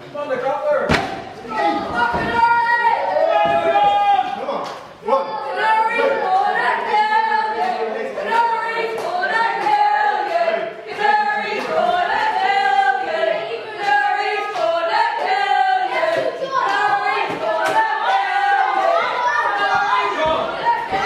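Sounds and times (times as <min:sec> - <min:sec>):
crowd chanting in unison: 0:01.4 - 0:21.0.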